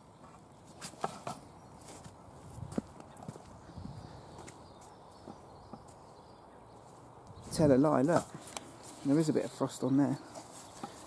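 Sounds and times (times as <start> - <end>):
footsteps on hard dirt: 0.2 - 6.0, 6.9 - 9.6, 10.2 - 11.0.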